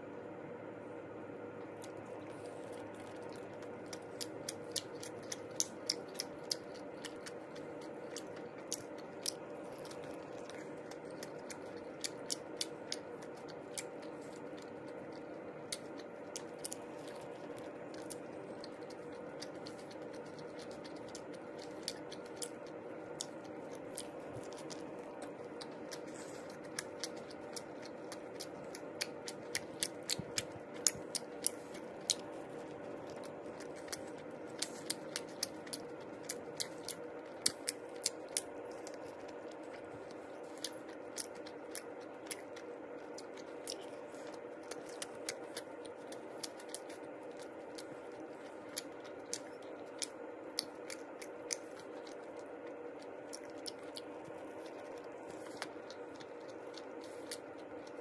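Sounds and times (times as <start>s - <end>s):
steady low hum: 0.0s - 58.0s
crunchy chewing mouth clicks: 1.6s - 58.0s.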